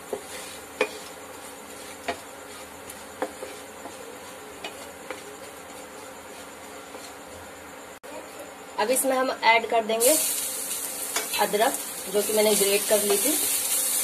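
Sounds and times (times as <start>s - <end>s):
spatula stirring in pan: 0.0s - 7.8s, 10.2s - 14.0s
spices sizzling in hot oil: 0.0s - 7.9s, 9.9s - 14.0s.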